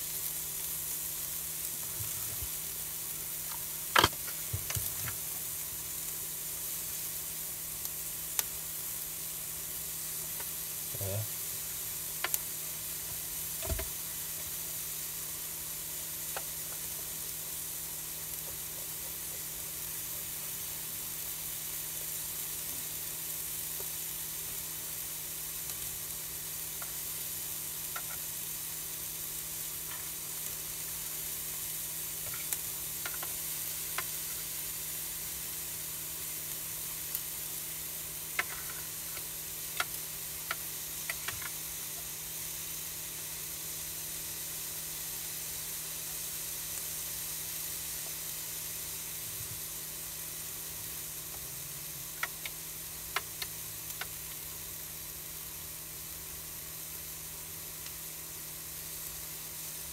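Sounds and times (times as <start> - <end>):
bacon and vegetables sizzling in a pan: 0.0 - 59.9.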